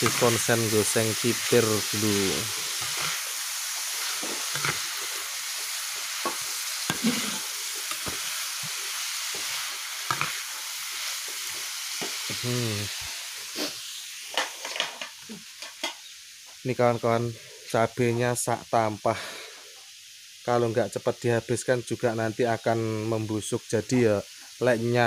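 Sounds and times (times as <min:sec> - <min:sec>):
food sizzling in wok: 0:00.0 - 0:25.0.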